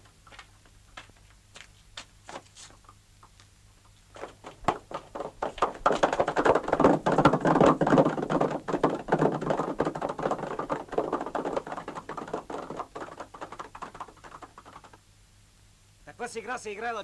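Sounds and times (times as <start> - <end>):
horses galloping on dirt: 0.0 - 15.0.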